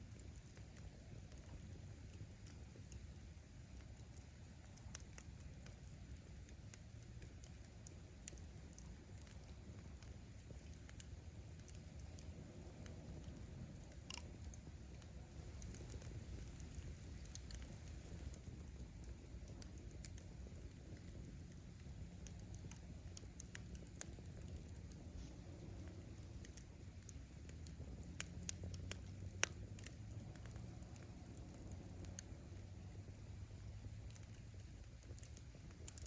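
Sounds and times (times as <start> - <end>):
campfire flames rumbling: 0.0 - 36.0
fire crackling and popping: 0.0 - 36.0.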